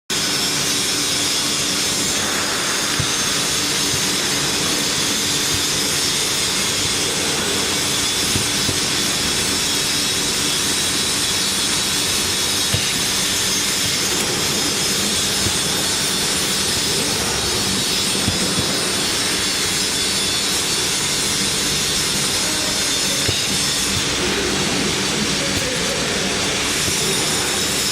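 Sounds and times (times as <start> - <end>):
factory machinery whirring: 0.1 - 27.9.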